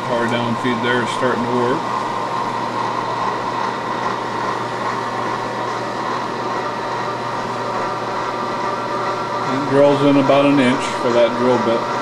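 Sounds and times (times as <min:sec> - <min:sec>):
milling machine drilling metal: 0:00.0 - 0:12.0.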